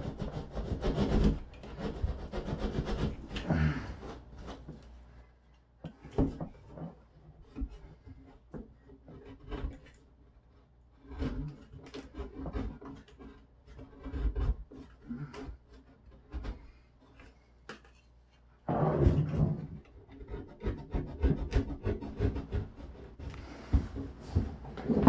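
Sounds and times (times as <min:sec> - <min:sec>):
tools scraping drywall: 0:00.0 - 0:04.8, 0:05.8 - 0:25.0.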